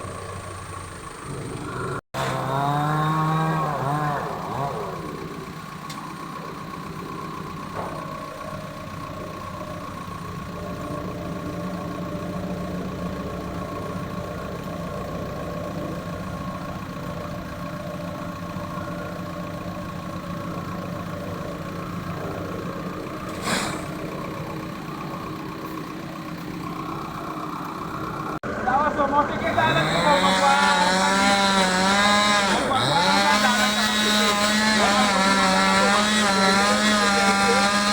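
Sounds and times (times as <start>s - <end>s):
engine idling: 0.0s - 37.9s.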